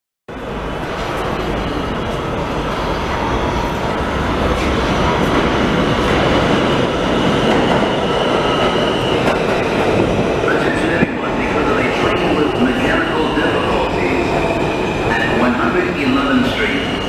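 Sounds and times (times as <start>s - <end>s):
train wheels rumbling on rails: 0.3s - 17.0s.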